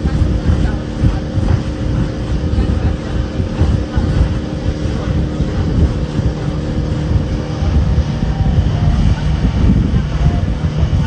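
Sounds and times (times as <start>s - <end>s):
boat engine drone: 0.0s - 11.0s
water rushing along hull: 0.0s - 11.0s
wind buffeting microphone: 0.0s - 11.0s.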